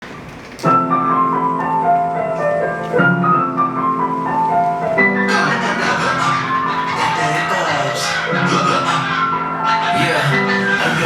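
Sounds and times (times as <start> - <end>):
piano-like keyboard melody: 0.0 - 11.0.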